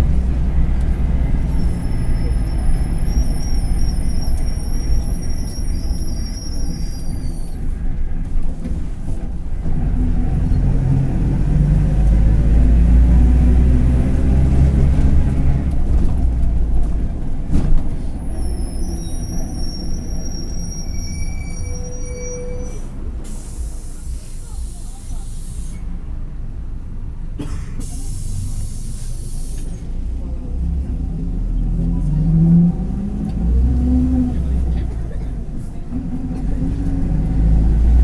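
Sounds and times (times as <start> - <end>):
bus diesel engine under load: 0.0 - 38.0.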